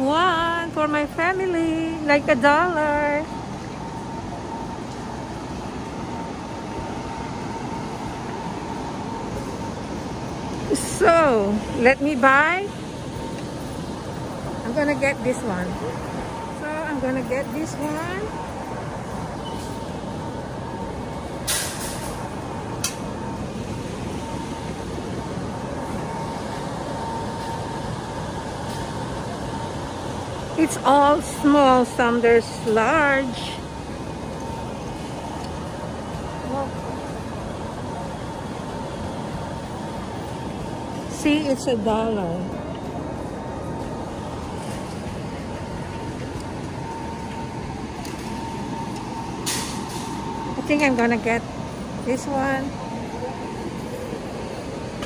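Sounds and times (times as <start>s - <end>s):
store background noise: 0.0s - 55.0s.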